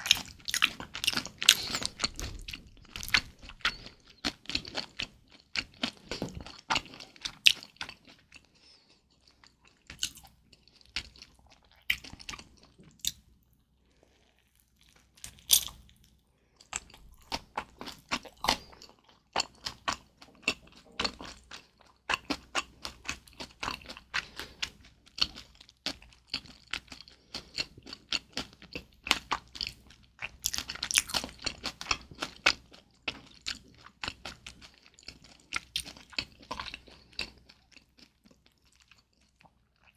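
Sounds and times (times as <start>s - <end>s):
chewing with wet crunches: 0.0s - 13.2s, 14.1s - 39.9s.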